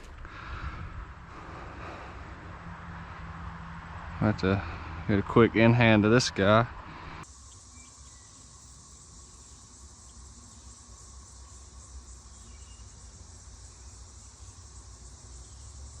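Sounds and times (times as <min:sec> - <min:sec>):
insects buzzing chorus: 0:00.0 - 0:16.0.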